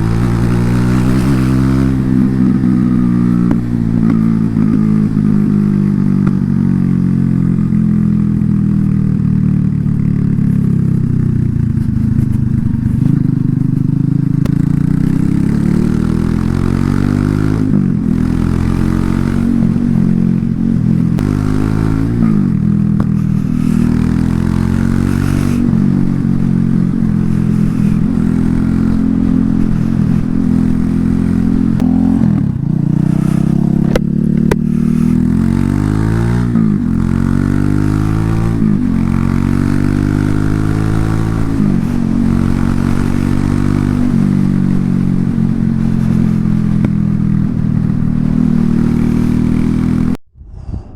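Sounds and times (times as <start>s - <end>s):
motorcycle engine accelerating: 0.0s - 50.2s.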